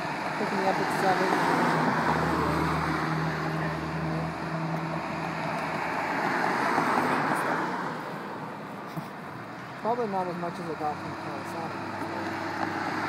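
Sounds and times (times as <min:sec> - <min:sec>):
car passing by: 0:00.0 - 0:08.5, 0:10.8 - 0:13.0.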